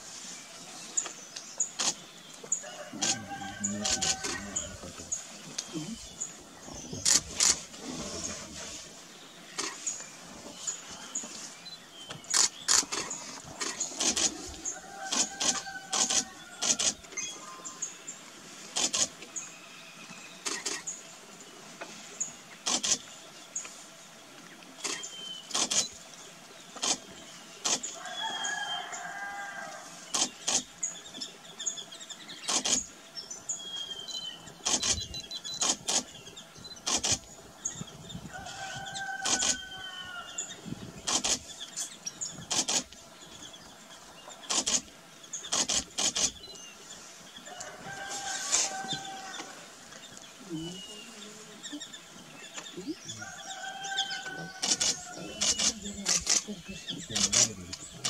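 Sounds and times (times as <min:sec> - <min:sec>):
birds calling: 0:00.0 - 0:58.0.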